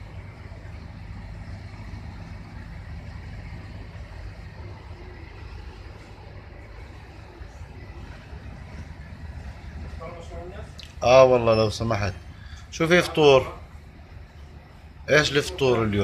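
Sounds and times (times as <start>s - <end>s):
ship low rumble: 0.0s - 16.0s.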